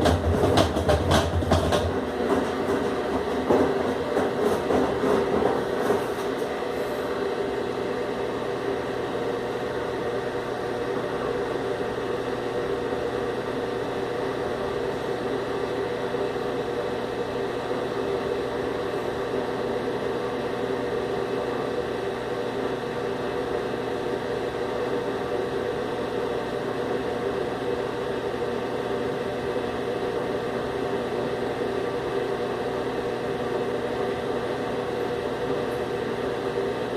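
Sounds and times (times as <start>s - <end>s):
washing machine humming: 0.0s - 36.9s.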